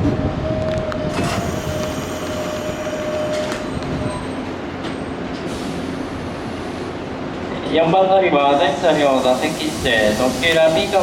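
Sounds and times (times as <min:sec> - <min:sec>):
electric train rumbling and braking: 0:00.0 - 0:11.0.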